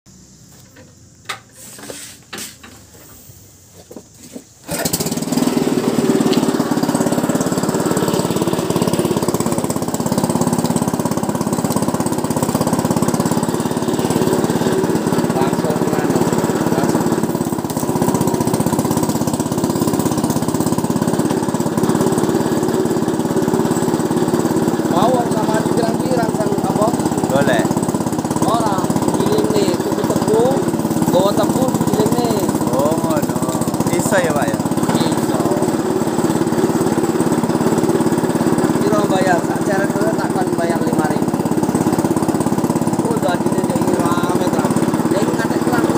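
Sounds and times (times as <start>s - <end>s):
small engine running: 2.8s - 45.9s.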